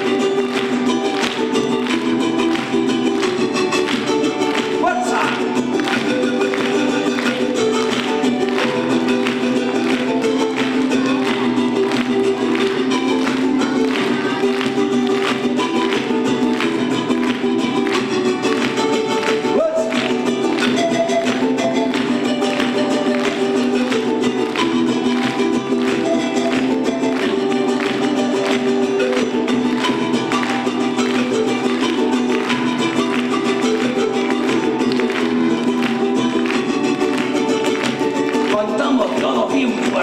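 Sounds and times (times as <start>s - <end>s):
panpipe melody: 0.0s - 40.0s
plucked string instrument strumming: 0.0s - 40.0s.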